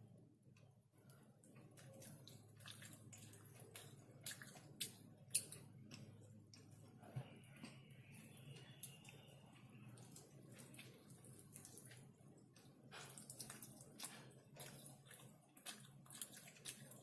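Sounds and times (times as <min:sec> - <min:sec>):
wet chewing: 0:01.1 - 0:07.0, 0:08.3 - 0:17.0.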